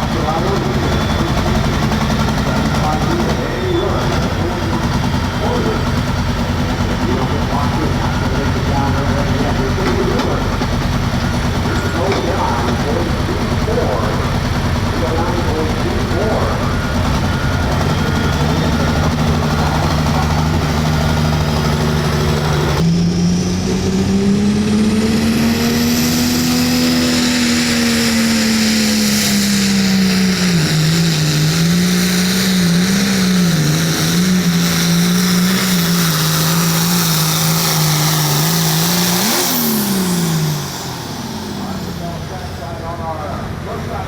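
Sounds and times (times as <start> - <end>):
diesel tractor engine at full throttle: 0.0 - 44.0.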